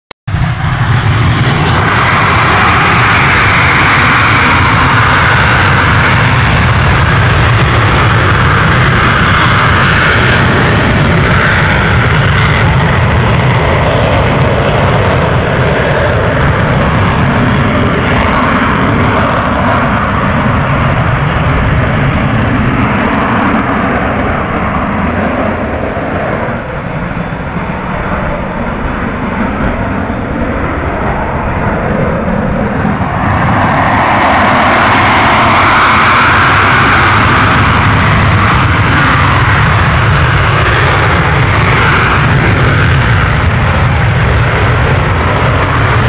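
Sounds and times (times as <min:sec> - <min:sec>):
jet engines roaring: 0:00.3 - 0:46.0.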